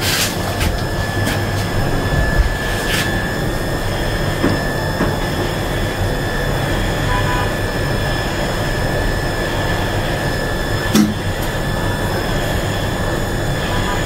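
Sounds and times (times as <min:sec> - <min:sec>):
high whining tones: 0:00.0 - 0:14.0
machinery hum and whir: 0:00.0 - 0:14.0.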